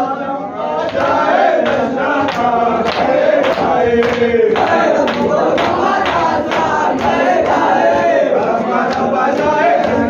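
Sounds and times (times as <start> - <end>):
men chanting together: 0.0 - 10.0.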